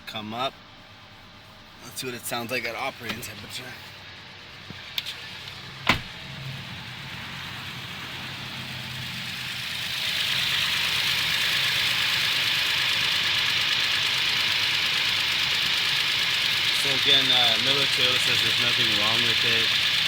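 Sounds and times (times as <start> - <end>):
pickup engine idling: 0.0 - 20.0
engine ticking: 2.1 - 20.0.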